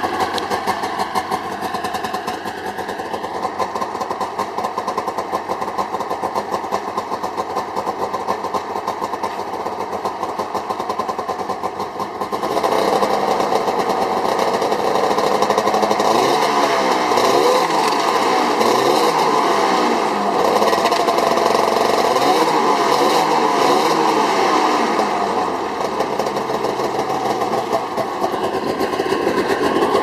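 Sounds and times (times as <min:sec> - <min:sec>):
snowmobile engine idling: 0:00.0 - 0:30.0.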